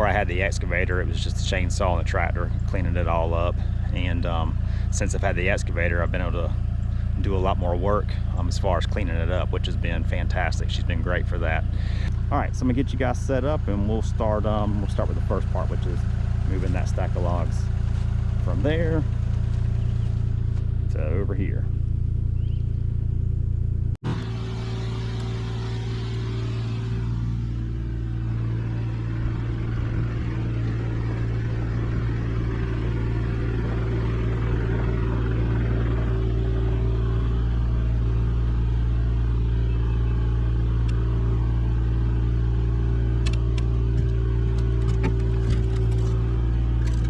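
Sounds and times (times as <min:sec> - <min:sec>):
excavator diesel engine running: 0:00.0 - 0:23.2, 0:24.0 - 0:47.0.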